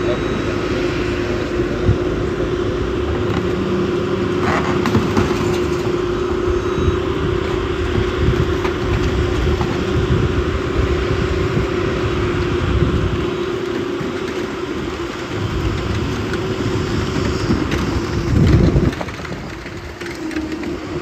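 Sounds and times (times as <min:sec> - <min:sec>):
heavy equipment engine humming: 0:00.0 - 0:21.0.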